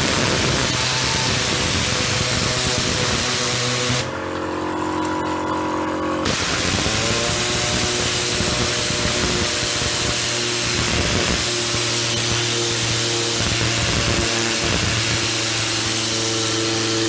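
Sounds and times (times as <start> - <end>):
compressed air hissing: 0.0 - 4.1, 6.2 - 17.0
air compressor humming: 0.0 - 17.0.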